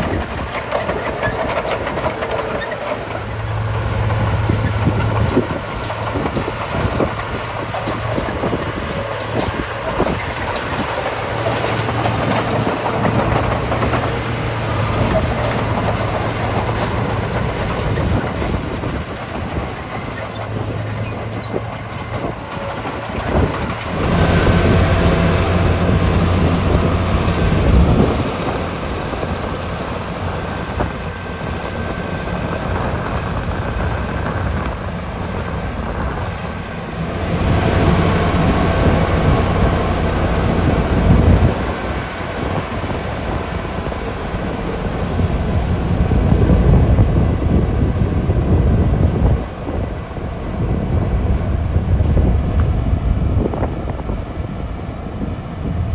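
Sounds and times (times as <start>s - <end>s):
bulldozer diesel engine under load: 0.0s - 55.9s
track clanking and rattling: 0.0s - 55.9s.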